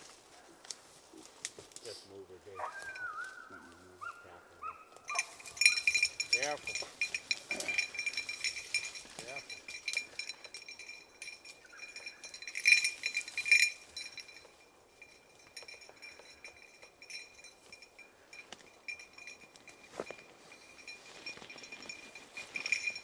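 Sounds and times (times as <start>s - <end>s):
twigs crackling underfoot: 0.0s - 23.0s
small bell jingling: 2.7s - 3.7s, 5.0s - 23.0s.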